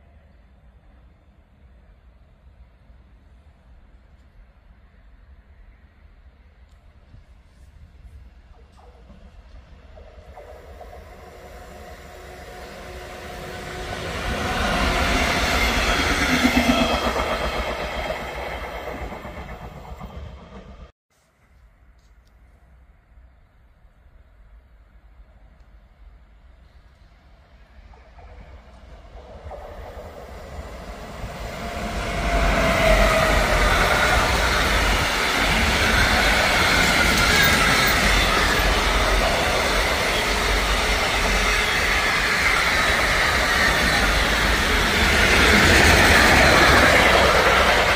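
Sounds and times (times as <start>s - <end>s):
electric locomotive passing: 0.0s - 20.9s, 24.5s - 47.9s.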